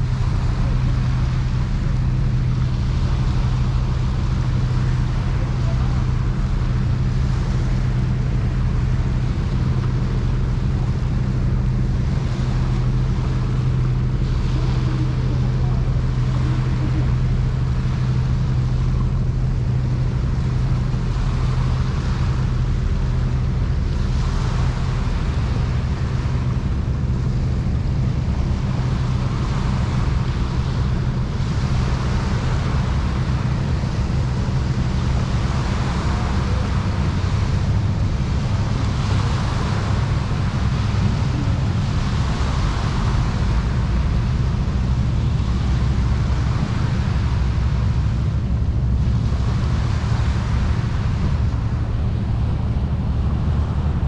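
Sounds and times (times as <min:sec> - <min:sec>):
ship engine droning: 0:00.0 - 0:54.0
water wash: 0:00.0 - 0:54.0.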